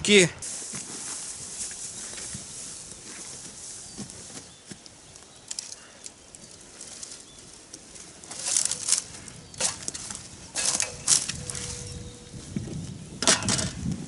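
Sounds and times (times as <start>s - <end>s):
faint rustle: 0.4s - 13.0s
footsteps crunching on forest litter: 0.4s - 13.1s.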